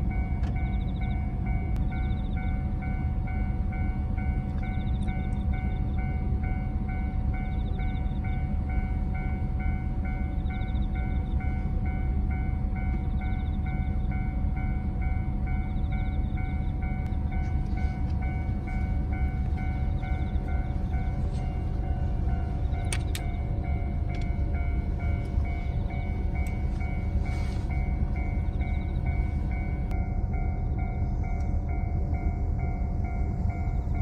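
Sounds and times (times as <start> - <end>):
level-crossing alarm dings: 0.0 - 34.0
train rumbling past: 0.0 - 34.0.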